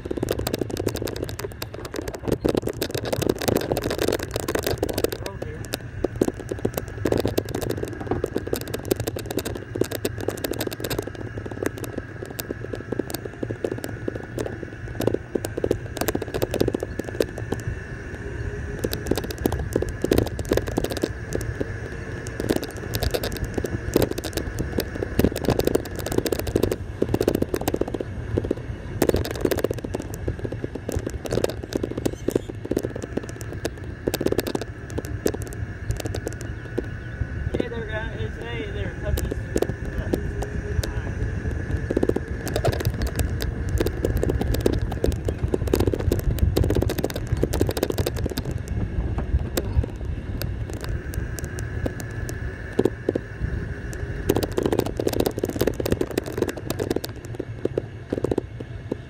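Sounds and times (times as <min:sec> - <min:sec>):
crackling and rattling clicks: 0:00.0 - 0:59.0
golf cart motor whine: 0:00.0 - 0:59.0.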